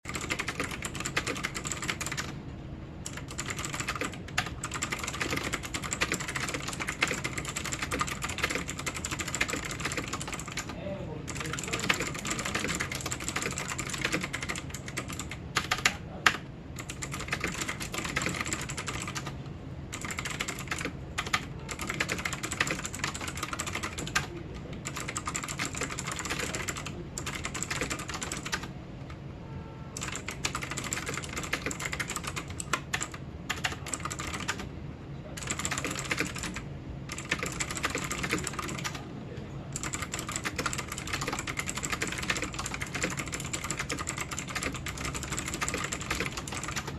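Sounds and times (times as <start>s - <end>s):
keyboard typing clicks: 0.1s - 2.4s, 3.0s - 10.7s, 11.3s - 29.1s, 30.0s - 34.7s, 35.4s - 39.0s, 39.7s - 46.9s.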